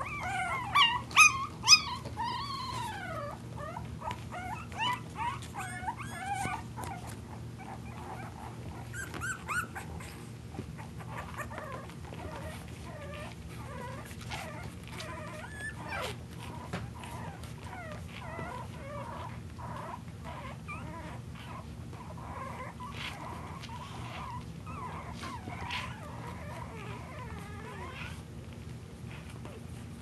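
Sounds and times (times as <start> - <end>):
puppies whimpering and squeaking: 0.0 - 30.0.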